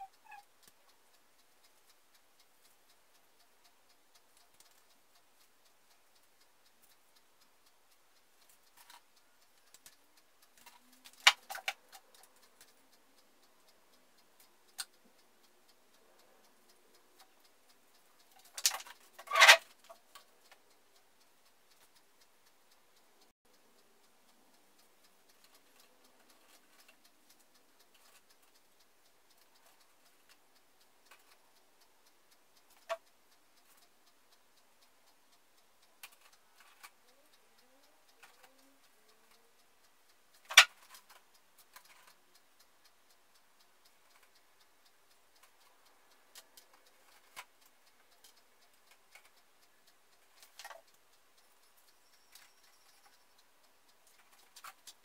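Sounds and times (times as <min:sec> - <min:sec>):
faint steady ticking: 0:00.0 - 0:55.0.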